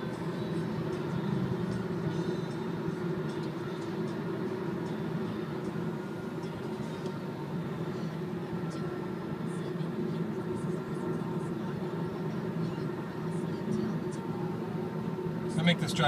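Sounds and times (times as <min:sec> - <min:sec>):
road and wind noise in car: 0:00.0 - 0:16.0.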